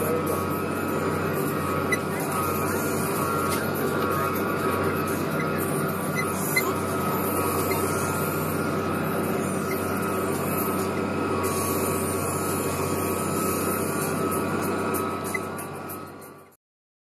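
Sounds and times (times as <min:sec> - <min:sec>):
tractor diesel engine running: 0:00.0 - 0:16.6.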